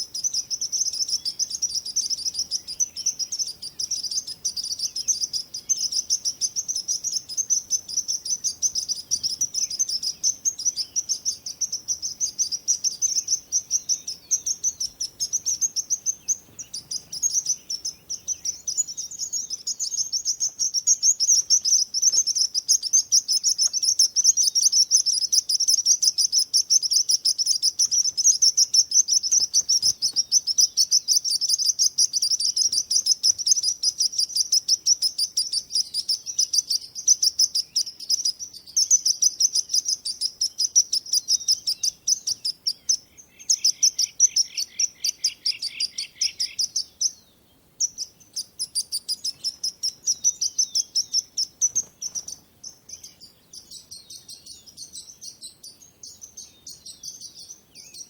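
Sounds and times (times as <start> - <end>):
lower rapid bird trill: 0.0 - 58.0
songbirds chirping: 0.0 - 58.0.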